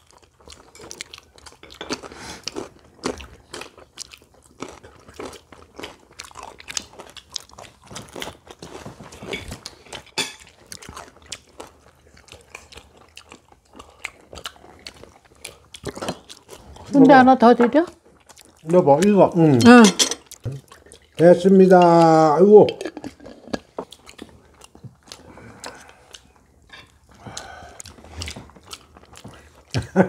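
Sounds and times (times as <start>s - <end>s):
chewing crunchy fried snacks: 0.0s - 17.0s, 17.8s - 19.6s, 20.2s - 22.3s, 22.9s - 30.0s.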